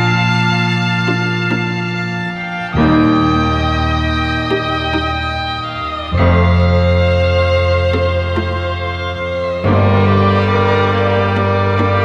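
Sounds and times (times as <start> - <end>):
slow held chords music: 0.0 - 12.0.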